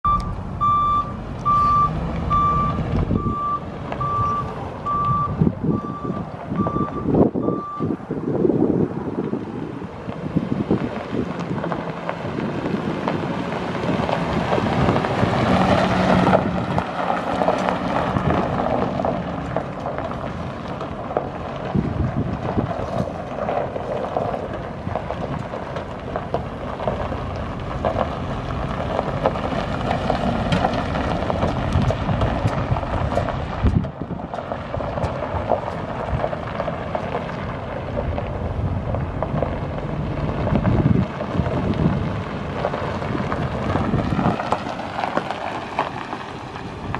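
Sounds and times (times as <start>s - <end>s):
engine rumbling: 0.0s - 46.9s
wind buffeting microphone: 0.1s - 46.9s.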